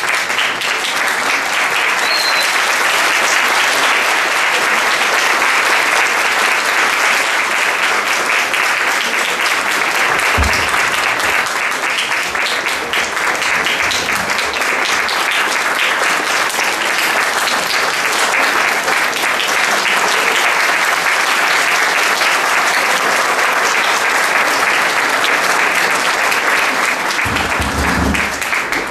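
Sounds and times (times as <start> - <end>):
crowd applauding: 0.0 - 28.9.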